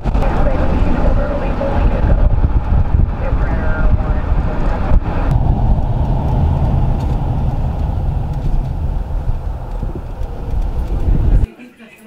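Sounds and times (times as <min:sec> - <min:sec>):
car road and engine rumble: 0:00.0 - 0:11.5.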